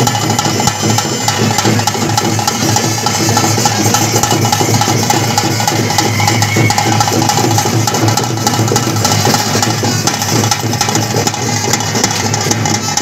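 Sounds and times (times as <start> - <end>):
fast drumming with sticks: 0.0 - 13.0.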